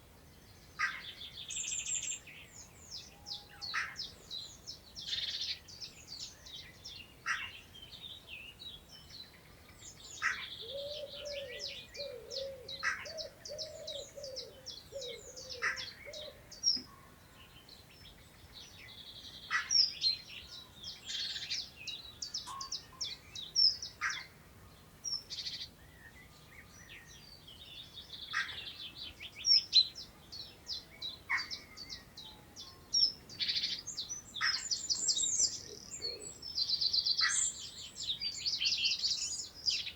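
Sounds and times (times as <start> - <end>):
birds chirping and trilling: 0.4 - 39.9.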